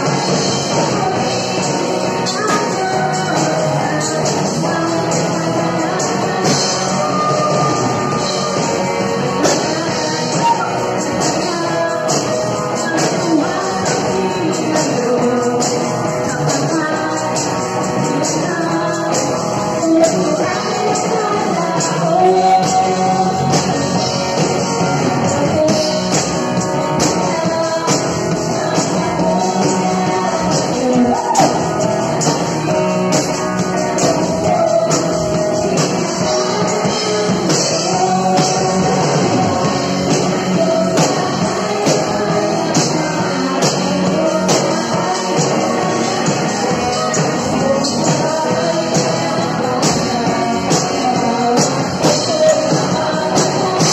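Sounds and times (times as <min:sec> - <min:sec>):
drum kit: 0:00.0 - 0:53.9
electric guitars: 0:00.0 - 0:53.9
man singing: 0:00.0 - 0:53.9
woman singing: 0:00.0 - 0:53.9.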